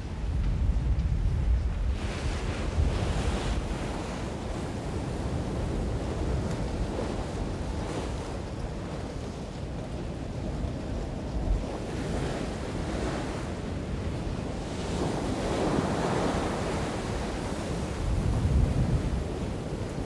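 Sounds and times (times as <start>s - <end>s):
wind gusts buffeting microphone: 0.0s - 20.0s
waves and rushing sea water: 1.8s - 20.0s.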